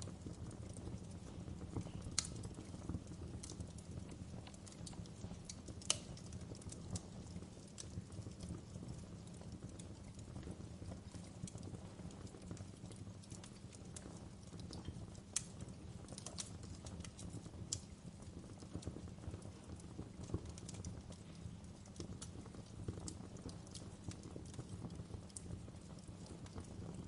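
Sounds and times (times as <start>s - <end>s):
fire popping and snapping: 0.0s - 27.0s
flames rumbling: 0.0s - 27.0s.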